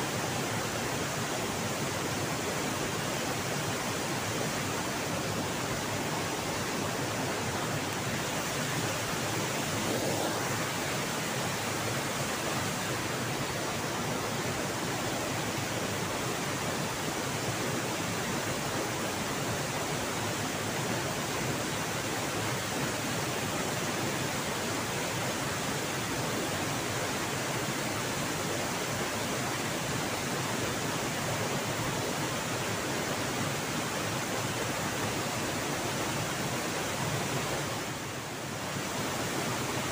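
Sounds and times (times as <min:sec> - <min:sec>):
fast-flowing river water: 0:00.0 - 0:39.9
waterfall: 0:00.0 - 0:39.9.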